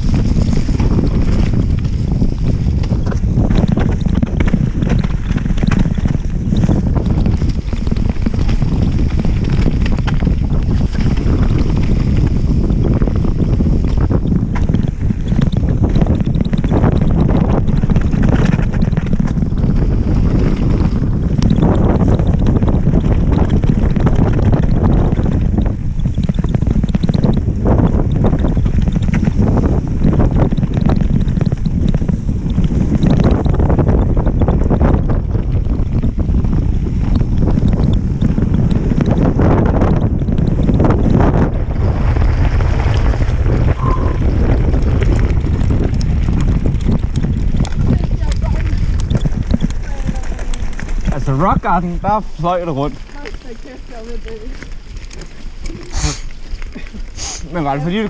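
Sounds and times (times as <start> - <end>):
bike clicks and rattles: 0.0 - 58.0
tyres rumbling over dirt: 0.0 - 58.0
wind buffeting microphone: 0.0 - 58.0.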